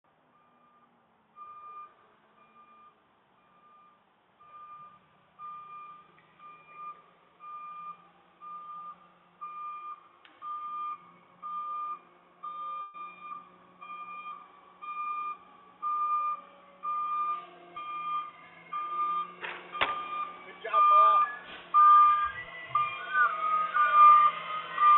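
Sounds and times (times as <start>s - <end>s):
faint truck engine hum: 0.1s - 24.9s
reversing alarm beeping: 0.3s - 24.9s.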